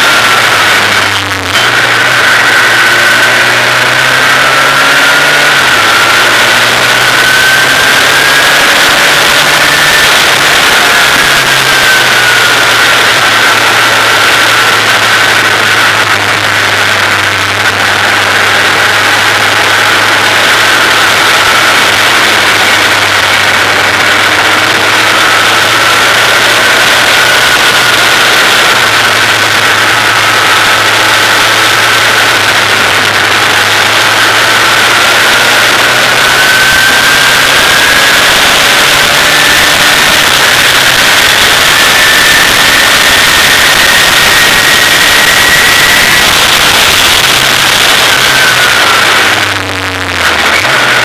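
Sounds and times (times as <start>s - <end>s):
race car engine at speed: 0.0s - 51.0s
rush of noise: 0.0s - 51.0s.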